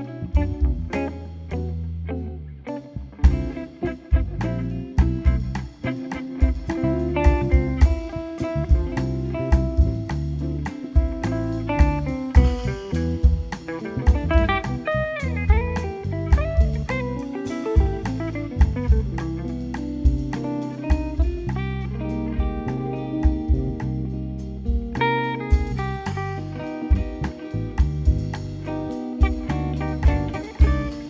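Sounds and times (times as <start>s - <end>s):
double bass: 0.0s - 31.0s
guitar melody: 0.0s - 31.0s
drum kit beat: 0.4s - 1.7s, 3.2s - 31.0s.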